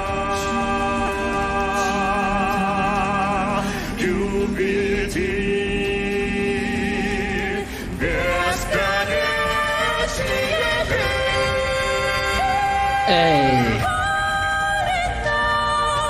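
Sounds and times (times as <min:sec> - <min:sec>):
male vocal quartet singing: 0:00.0 - 0:14.2.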